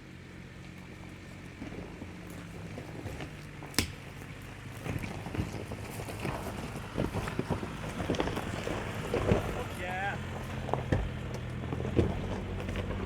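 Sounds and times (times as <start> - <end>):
truck engine running low: 0.0 - 13.0
tyres crunching over rocks: 0.4 - 13.0
suspension knocking and rattling: 0.6 - 13.0.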